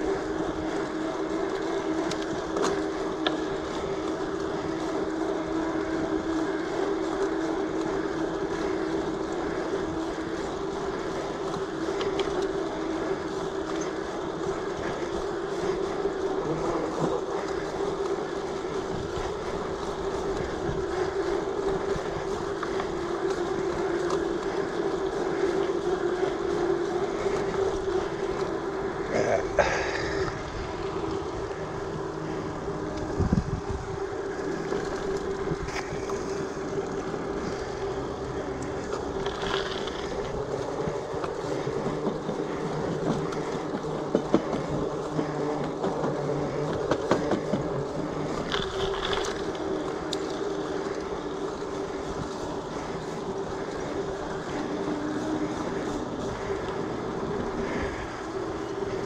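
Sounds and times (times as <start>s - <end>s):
bike tyres rolling on asphalt: 0.0s - 59.0s.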